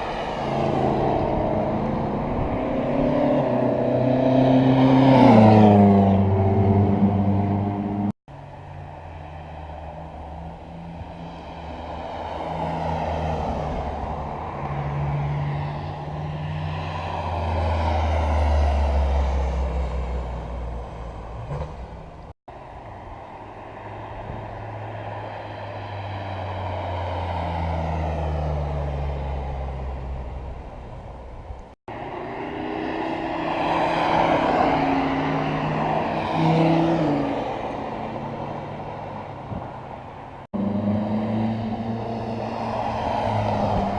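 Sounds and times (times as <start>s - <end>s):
car engines passing: 0.0s - 43.9s.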